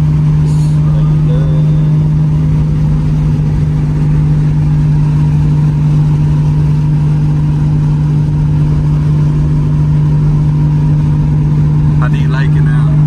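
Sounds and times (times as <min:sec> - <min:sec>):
car engine drone: 0:00.0 - 0:13.0
low road rumble: 0:00.0 - 0:13.0.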